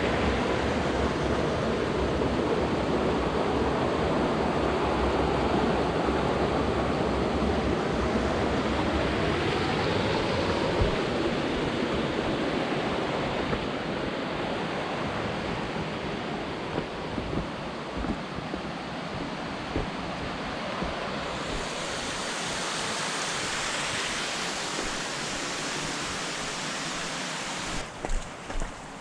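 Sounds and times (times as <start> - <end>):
waterfall rushing water: 3.6 - 29.0.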